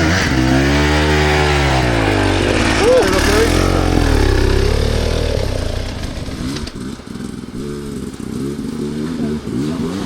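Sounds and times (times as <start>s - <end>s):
dirt bike engine revving: 0.0s - 10.0s
clatter over rough ground: 0.1s - 10.0s.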